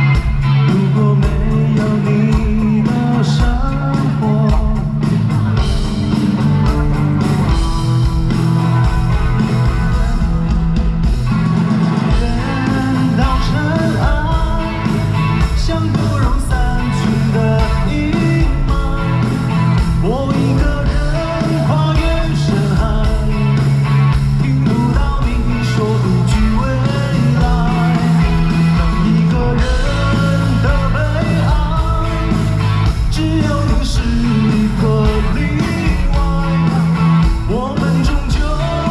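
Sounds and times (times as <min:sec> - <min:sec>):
person singing: 0:00.0 - 0:05.2, 0:12.1 - 0:38.9
live rock band: 0:00.0 - 0:38.9.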